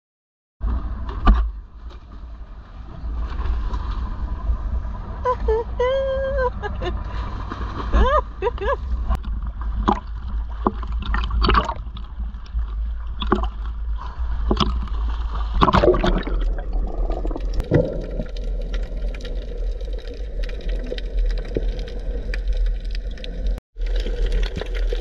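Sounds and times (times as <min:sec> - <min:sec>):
low rumble: 0:00.6 - 0:25.0
water splashing and sloshing: 0:00.7 - 0:25.0.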